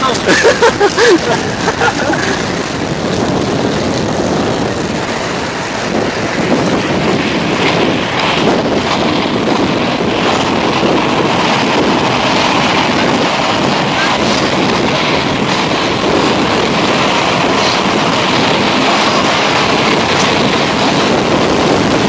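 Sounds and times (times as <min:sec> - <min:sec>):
skate wheels rolling on asphalt: 0:00.0 - 0:22.0
wind over microphone: 0:00.0 - 0:22.0.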